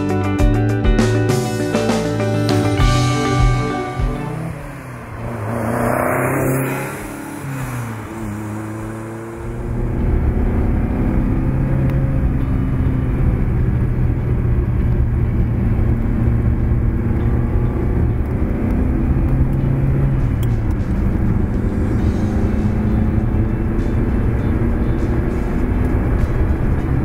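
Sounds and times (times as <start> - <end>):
road and wind noise: 0.0 - 27.0
car engine at steady revs: 2.0 - 27.0.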